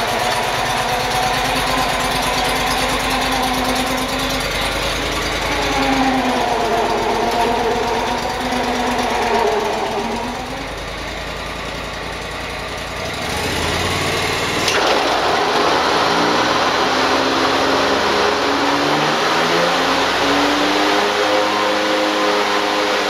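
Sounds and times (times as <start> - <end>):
mower deck rushing: 0.0 - 20.2
mower diesel engine running: 0.0 - 23.0.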